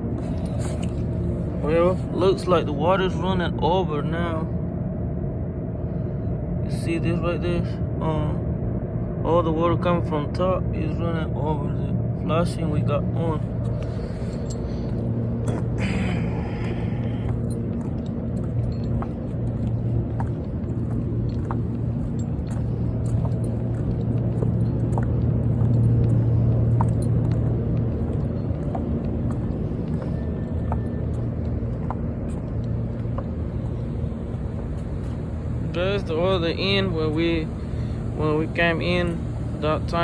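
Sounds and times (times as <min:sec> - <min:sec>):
low engine hum: 0:00.0 - 0:40.0.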